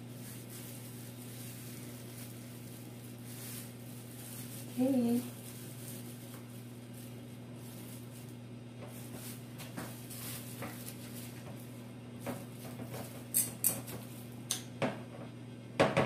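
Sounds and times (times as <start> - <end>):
plastic glove rustling: 0.0 - 14.4
steady low hum: 0.0 - 16.0.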